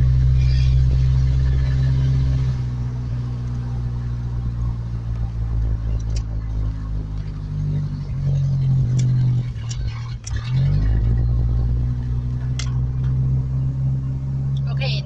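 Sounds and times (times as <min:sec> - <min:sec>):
pickup engine running: 0:00.0 - 0:15.0.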